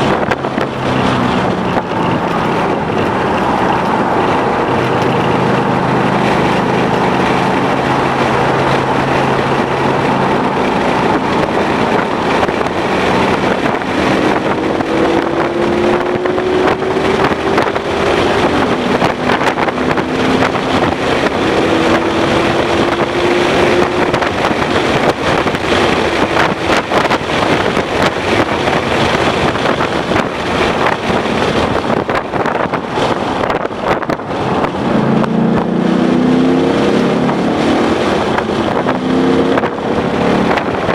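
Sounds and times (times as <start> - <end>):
car engine accelerating: 0.0 - 40.9
wind and road noise: 0.0 - 40.9.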